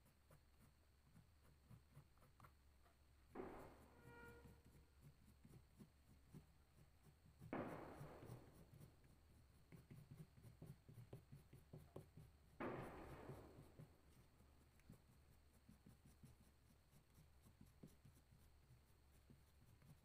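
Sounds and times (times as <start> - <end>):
crayon rubbing: 0.0 - 20.0
crayon scratching on paper: 0.0 - 20.0.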